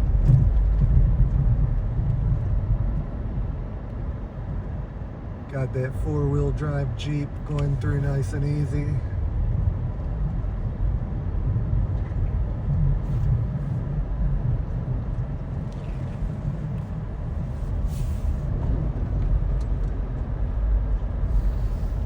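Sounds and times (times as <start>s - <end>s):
tyres on snowy road: 0.0s - 22.0s
vehicle engine rumble: 0.0s - 22.0s.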